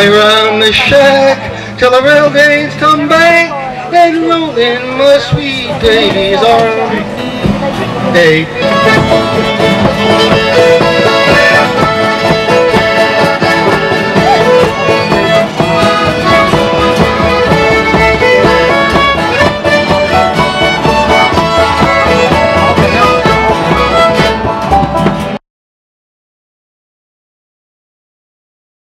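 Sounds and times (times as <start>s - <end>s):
accordion: 0.0s - 25.4s
banjo: 0.0s - 25.4s
fiddle: 0.0s - 25.4s
strummed acoustic guitars: 0.0s - 25.4s.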